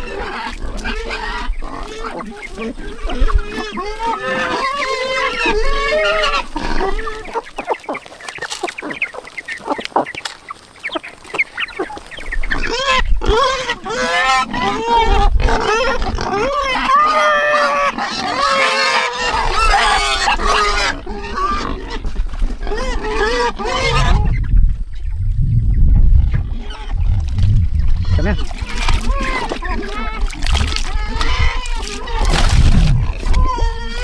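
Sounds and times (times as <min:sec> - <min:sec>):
chickens or geese calling: 0:00.0 - 0:34.0.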